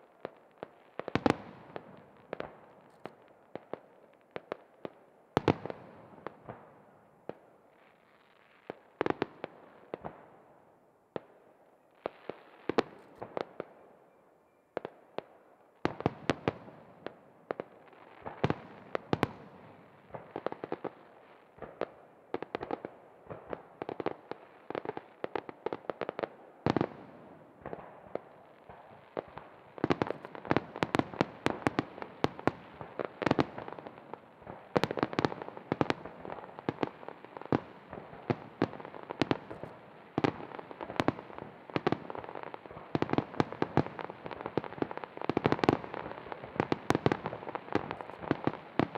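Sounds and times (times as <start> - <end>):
fireworks bangs and crackles: 0.0 - 10.4, 11.1 - 13.8, 14.8 - 48.9.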